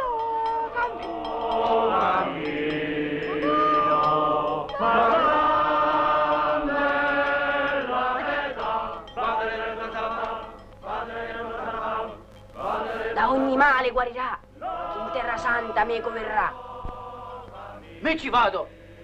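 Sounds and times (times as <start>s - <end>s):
group chanting a hymn: 0.5s - 13.8s, 14.5s - 19.0s.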